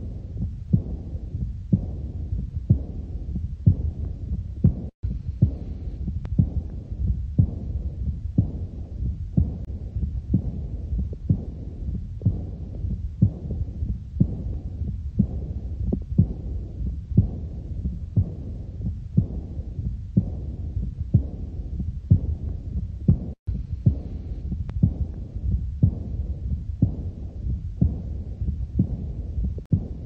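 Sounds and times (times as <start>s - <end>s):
heartbeat through stethoscope: 0.0s - 30.0s
rushing heart murmur: 0.0s - 30.0s.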